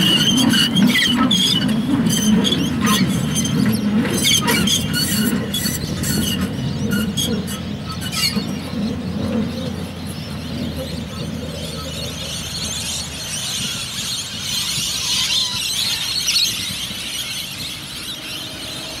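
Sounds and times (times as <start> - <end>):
low rumble of train: 0.0 - 19.0
train wheels squealing on rails: 0.0 - 19.0.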